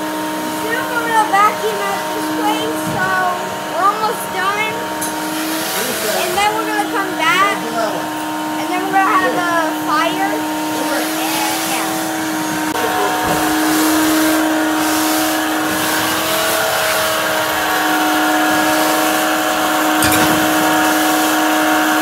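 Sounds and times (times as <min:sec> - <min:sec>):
shop vacuum running: 0:00.0 - 0:22.0.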